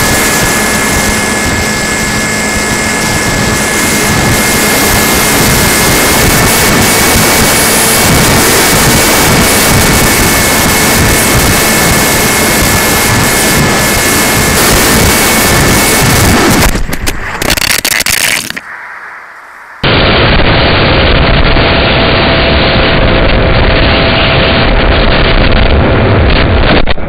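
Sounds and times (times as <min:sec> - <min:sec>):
electric motor high whine: 0:00.0 - 0:25.2
wind noise rushing: 0:00.0 - 0:27.0.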